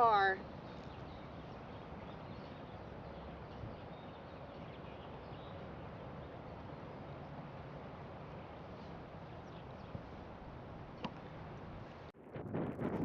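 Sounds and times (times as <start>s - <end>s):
faint outdoor background noise: 0.0s - 12.8s.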